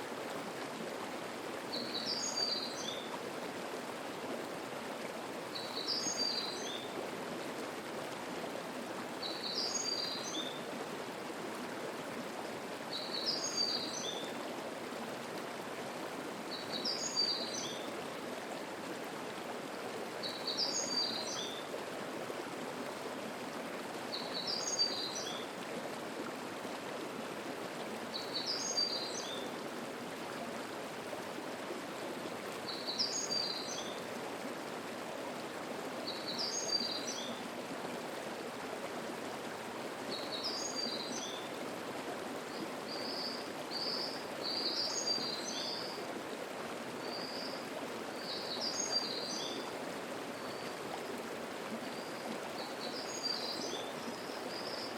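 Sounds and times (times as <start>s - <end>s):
mountain stream babbling: 0.0s - 54.9s.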